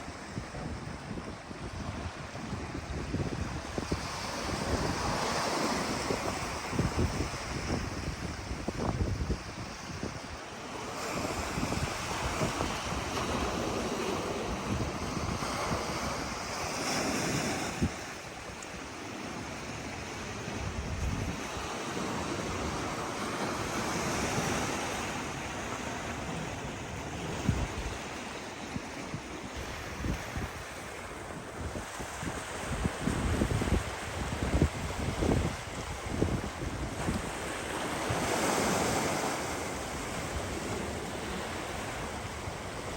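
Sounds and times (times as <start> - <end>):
sea waves breaking on shore: 0.0 - 42.9
wind buffeting microphone: 0.0 - 42.9.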